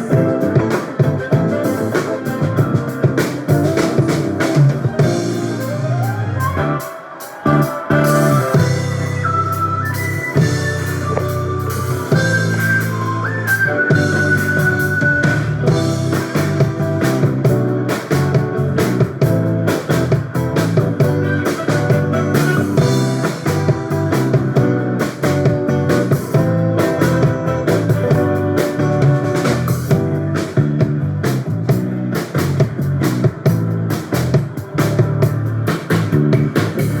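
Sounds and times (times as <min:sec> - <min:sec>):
drum-kit beat: 0:00.0 - 0:37.0
guitar: 0:00.0 - 0:37.0
live band playing: 0:00.0 - 0:37.0.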